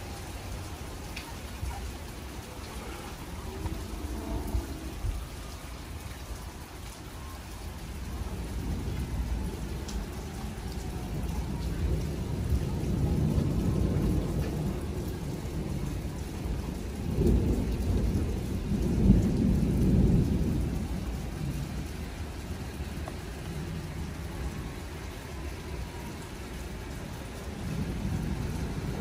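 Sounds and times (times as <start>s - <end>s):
low thunder rumbling: 0.0s - 29.0s
steady rain: 0.0s - 29.0s.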